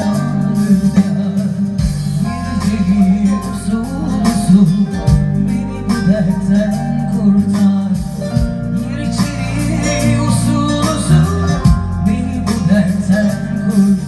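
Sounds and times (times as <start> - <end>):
keyboard playing acoustic style music: 0.0 - 14.0.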